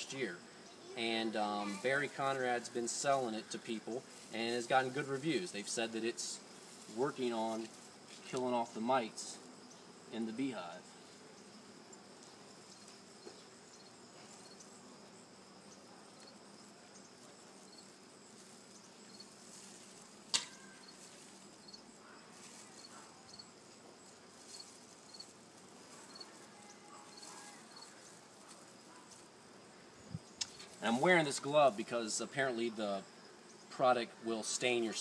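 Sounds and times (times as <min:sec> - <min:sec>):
honeybees humming: 0:00.0 - 0:35.0
insect chirps: 0:00.0 - 0:35.0.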